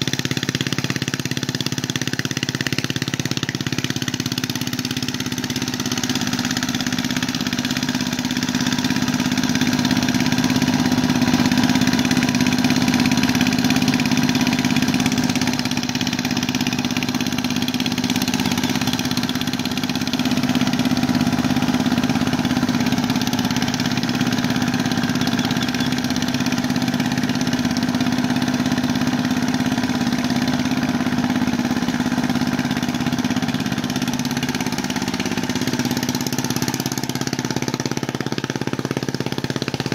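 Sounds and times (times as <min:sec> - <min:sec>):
small tractor engine humming: 0:00.0 - 0:39.9.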